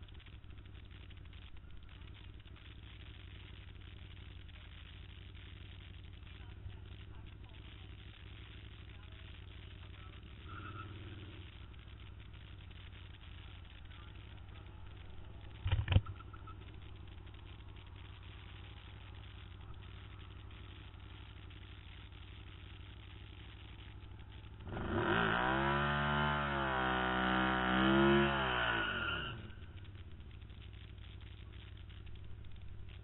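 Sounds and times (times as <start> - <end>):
engine idling and revving: 0.0 - 33.0.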